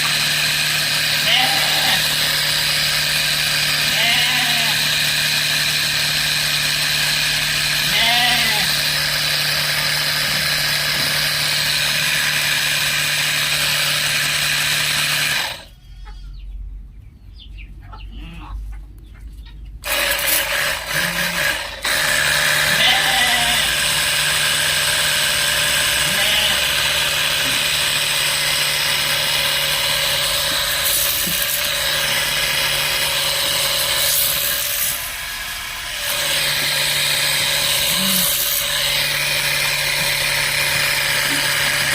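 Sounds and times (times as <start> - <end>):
electric pump sprayer whining: 0.0 - 15.7, 19.8 - 41.9.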